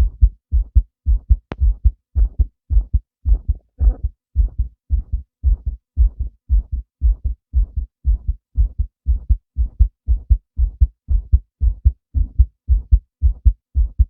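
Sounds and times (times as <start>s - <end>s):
heartbeat double thump: 0.0s - 14.0s.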